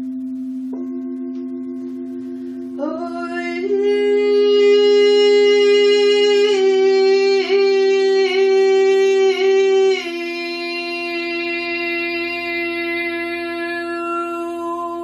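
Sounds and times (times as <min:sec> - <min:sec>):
singing bowl drone: 0:00.0 - 0:15.0.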